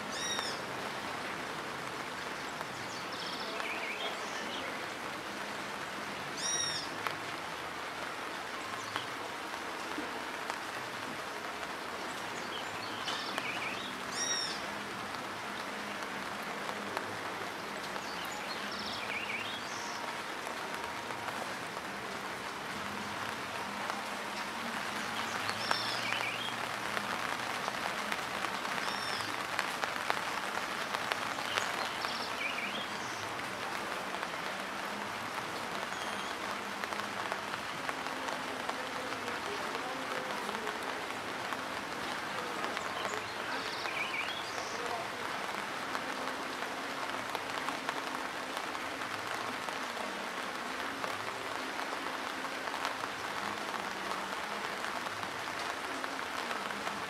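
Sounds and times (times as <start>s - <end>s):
rain falling on dirt road: 0.0s - 57.0s.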